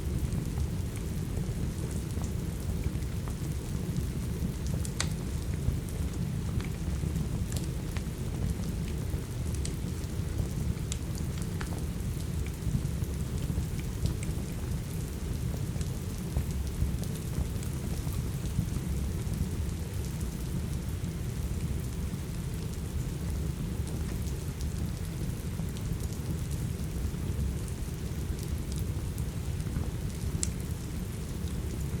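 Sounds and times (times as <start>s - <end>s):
steady rain: 0.0s - 32.0s
wood fire crackling: 0.1s - 31.9s.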